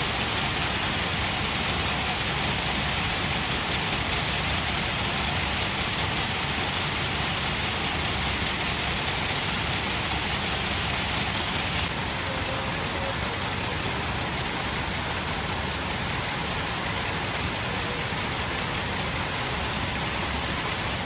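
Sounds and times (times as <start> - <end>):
factory machinery clattering: 0.0 - 21.0.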